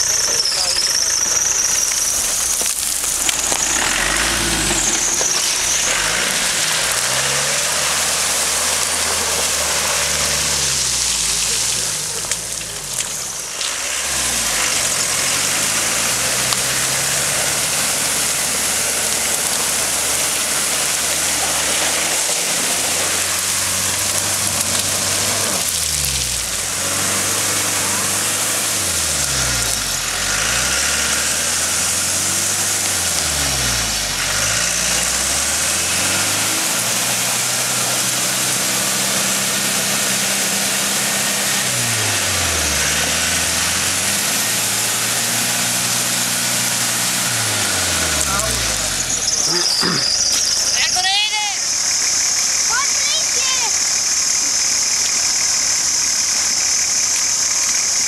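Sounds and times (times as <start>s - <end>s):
car engine revving off-road: 0.0s - 58.0s.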